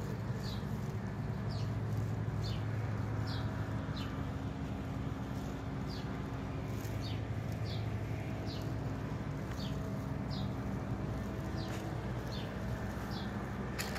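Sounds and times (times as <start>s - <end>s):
low machine hum: 0.0s - 13.9s
bird chirping: 0.4s - 4.2s, 5.4s - 13.6s.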